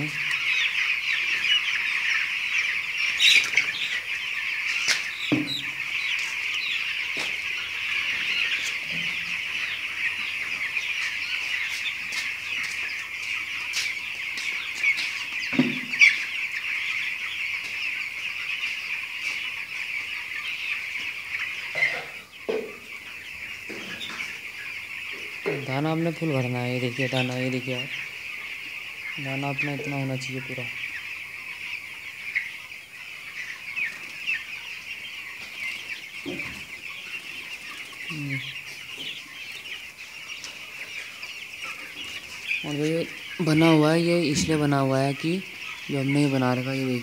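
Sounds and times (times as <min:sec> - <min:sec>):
chicks peeping: 0:00.0 - 0:47.0.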